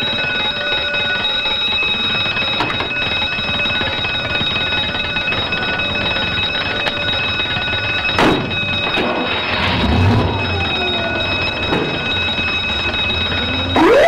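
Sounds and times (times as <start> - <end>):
electric alarm bell ringing: 0.0 - 14.0.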